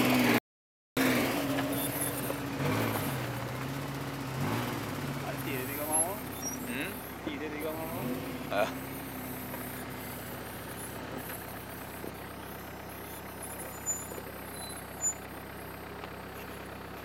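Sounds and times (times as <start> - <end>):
engine running under load: 0.0 - 0.4, 1.0 - 17.0
vehicle driving through snow: 1.0 - 17.0.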